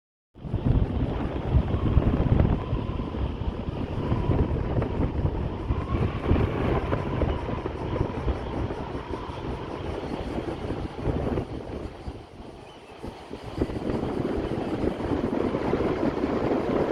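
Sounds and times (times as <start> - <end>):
gusty wind buffeting microphone: 0.4 - 16.9.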